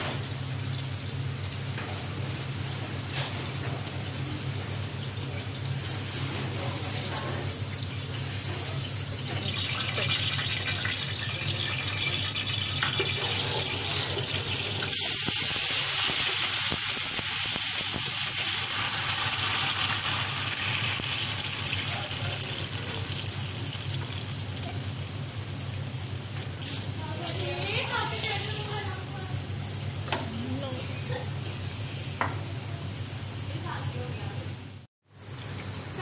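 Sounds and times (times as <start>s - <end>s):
water hissing in hot oil: 0.1s - 30.5s.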